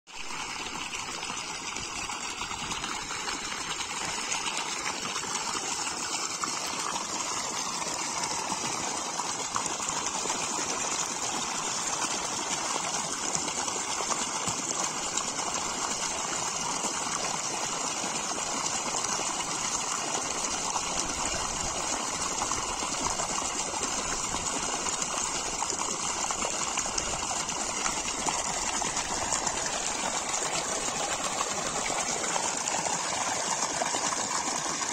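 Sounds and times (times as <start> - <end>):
water gushing into open water: 0.1 - 34.9.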